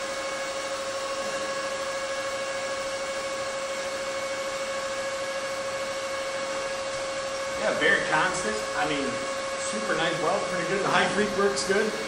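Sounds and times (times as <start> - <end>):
welder hissing and humming: 0.0 - 12.0.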